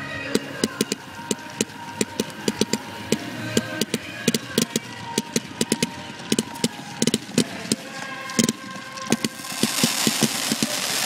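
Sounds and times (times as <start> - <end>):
crackling firework tails: 0.3 - 11.0
fireworks bangs: 0.3 - 11.0.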